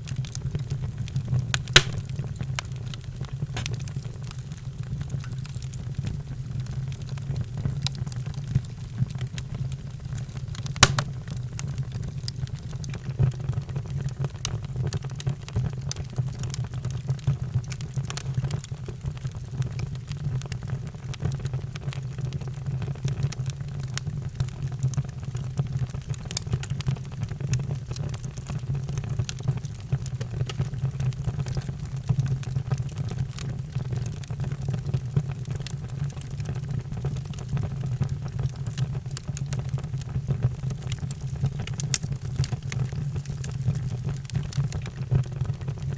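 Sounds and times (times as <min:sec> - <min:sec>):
fire popping: 0:00.0 - 0:20.8, 0:21.7 - 0:45.9
wood fire crackling: 0:00.0 - 0:45.9.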